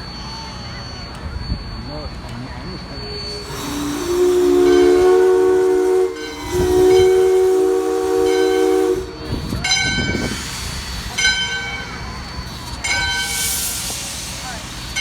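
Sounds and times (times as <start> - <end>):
steam locomotive chime whistle: 0.0 - 15.0.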